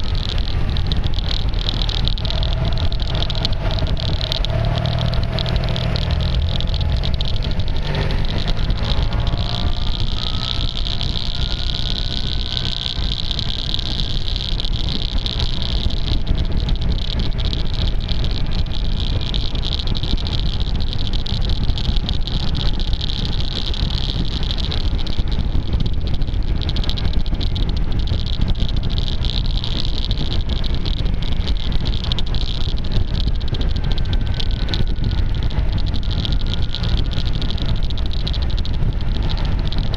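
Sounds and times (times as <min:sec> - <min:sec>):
clicking tape on microphone: 0:00.0 - 0:39.9
scooter engine accelerating: 0:00.0 - 0:39.9
wind rumbling on microphone: 0:00.0 - 0:39.9.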